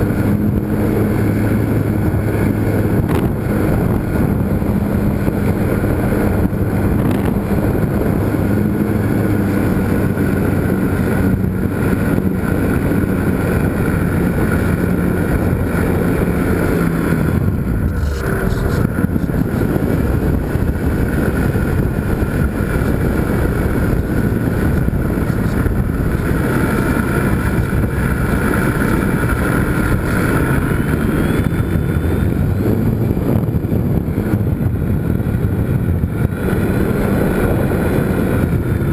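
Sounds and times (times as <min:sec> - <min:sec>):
model airplane motor and propeller: 0:00.0 - 0:38.9
wind on microphone: 0:00.0 - 0:38.9.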